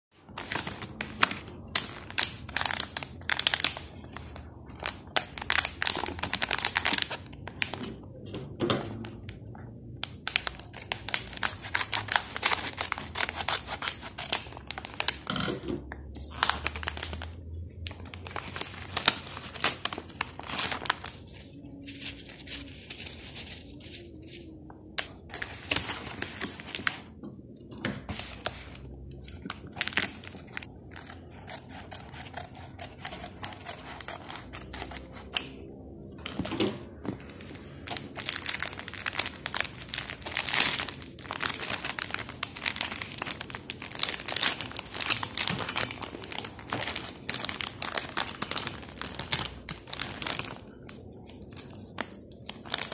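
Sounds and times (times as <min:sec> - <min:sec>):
plastic packaging crinkling: 0:00.2 - 0:07.8, 0:08.9 - 0:15.5, 0:16.1 - 0:27.2, 0:28.1 - 0:36.5, 0:37.1 - 0:52.9.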